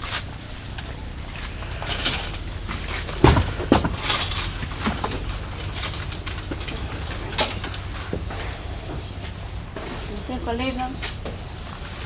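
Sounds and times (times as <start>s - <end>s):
objects knocking and clattering: 0.0s - 10.3s.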